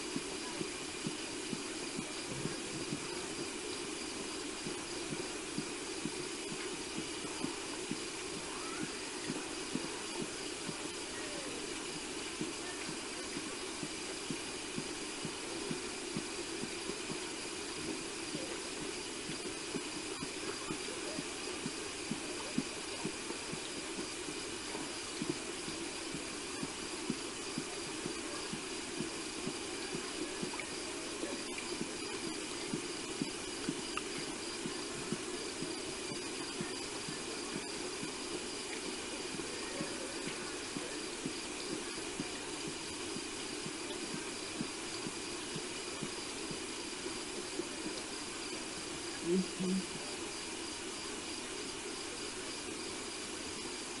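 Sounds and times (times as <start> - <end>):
high background hum: 0.0 - 54.0.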